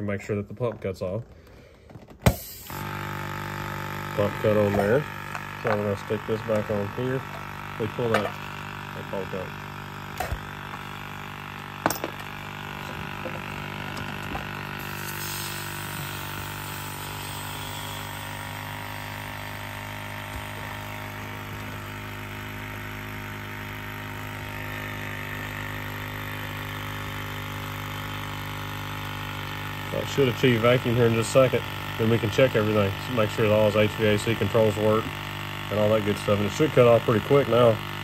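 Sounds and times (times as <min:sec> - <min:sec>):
electric vacuum pump running: 0:00.0 - 0:38.0.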